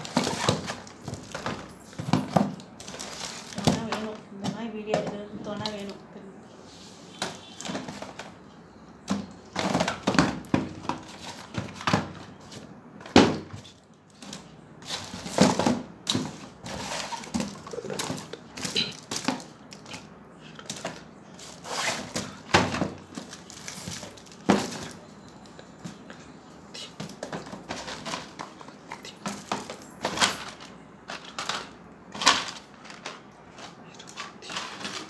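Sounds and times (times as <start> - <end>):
cardboard packets rustling and scraping: 0.0 - 4.3, 6.6 - 35.0.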